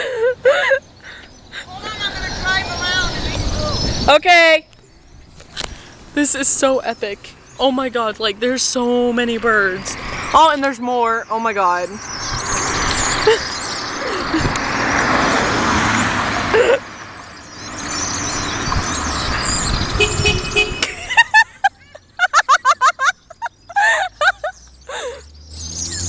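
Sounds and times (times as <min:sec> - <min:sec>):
flock of birds calling: 0:00.0 - 0:04.2, 0:05.0 - 0:15.2, 0:15.8 - 0:26.0.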